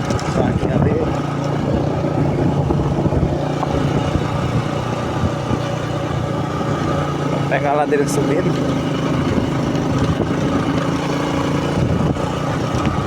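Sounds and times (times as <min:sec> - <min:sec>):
road rumble: 0:00.0 - 0:13.0
vehicle engine running: 0:00.0 - 0:13.0.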